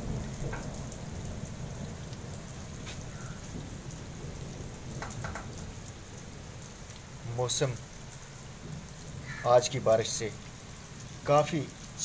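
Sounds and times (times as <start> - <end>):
heavy rain on wet floor: 0.0 - 12.0.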